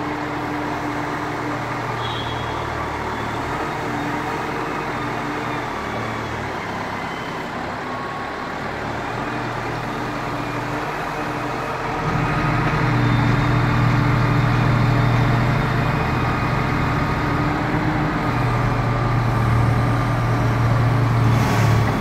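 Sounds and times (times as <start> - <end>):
wheel loader diesel engine: 0.0 - 22.0.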